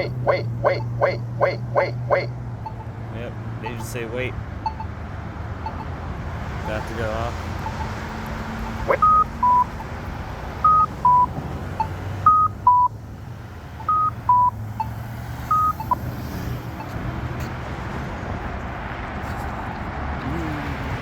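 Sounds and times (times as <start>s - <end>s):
two-tone crosswalk chime: 0.0s - 13.0s, 13.6s - 17.5s
traffic noise: 0.0s - 21.0s.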